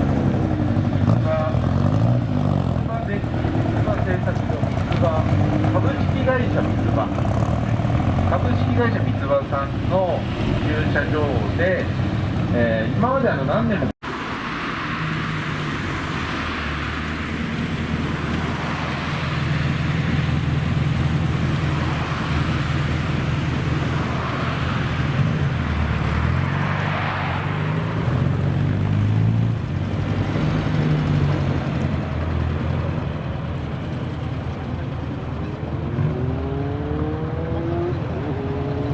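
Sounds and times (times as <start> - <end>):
engine revving: 0.0 - 13.0, 14.8 - 33.5, 35.3 - 38.9
car engines running: 0.0 - 38.9.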